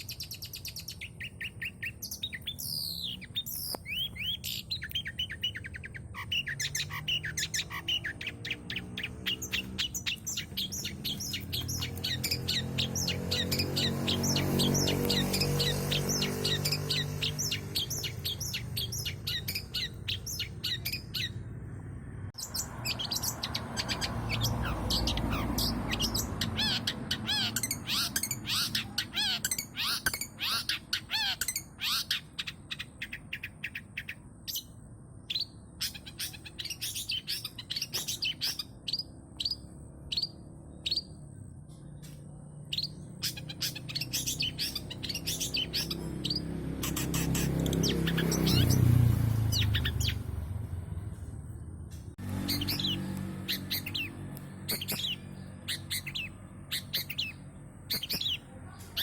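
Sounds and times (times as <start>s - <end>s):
bird chattering song: 0.0s - 21.8s, 22.4s - 51.3s, 52.1s - 59.0s.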